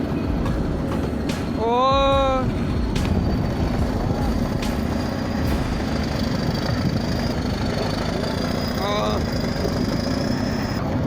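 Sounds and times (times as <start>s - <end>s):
sharp knocks: 0.0s - 10.0s
bulldozer engine under load: 0.0s - 10.8s.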